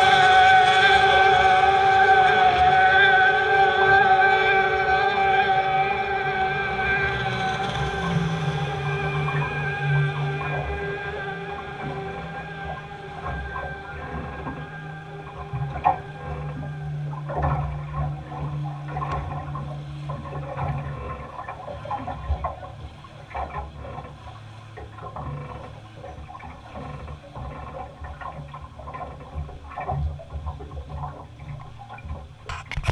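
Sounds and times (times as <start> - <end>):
boat engine drone: 0.0 - 32.9
water and handling noise: 0.0 - 32.9.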